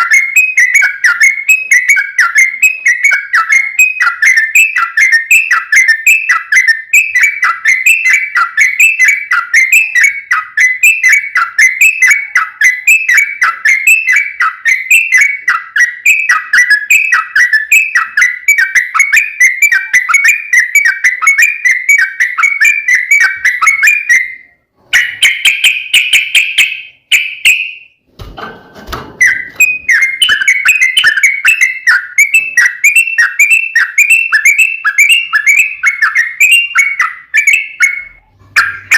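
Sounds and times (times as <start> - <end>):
bird singing whistled notes: 0.0 - 28.0, 29.1 - 38.9.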